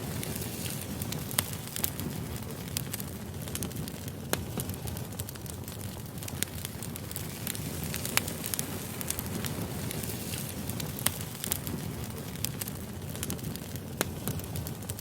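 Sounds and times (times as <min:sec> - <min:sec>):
campfire flames rumbling: 0:00.0 - 0:15.0
fire crackles and pops: 0:00.0 - 0:15.0.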